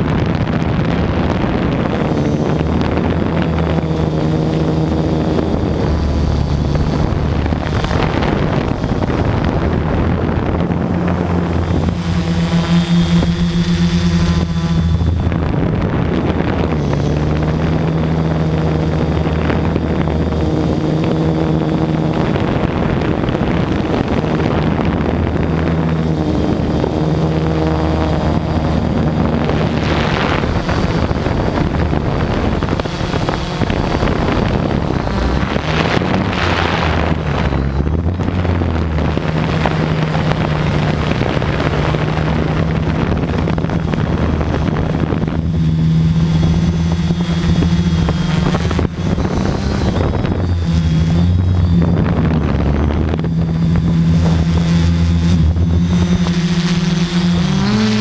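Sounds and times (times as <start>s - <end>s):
drone motors humming: 0.0s - 58.0s
wind buffeting microphone: 0.0s - 58.0s.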